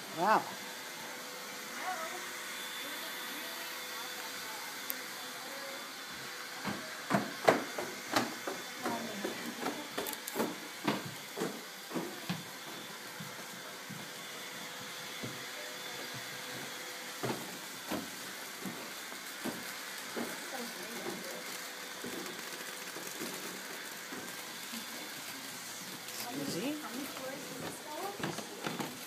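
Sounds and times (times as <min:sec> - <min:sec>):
electric fan whirring: 0:00.0 - 0:29.0.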